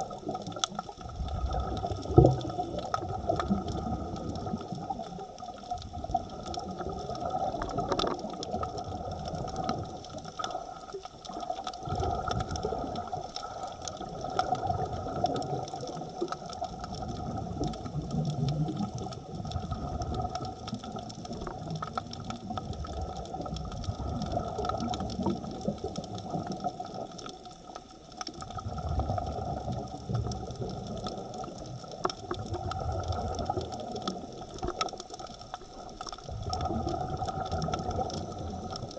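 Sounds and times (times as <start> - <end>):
low bubbling surges: 0.0 - 27.2, 28.4 - 38.9
faint clicks: 0.0 - 38.9
underwater mechanical drone: 0.0 - 38.9.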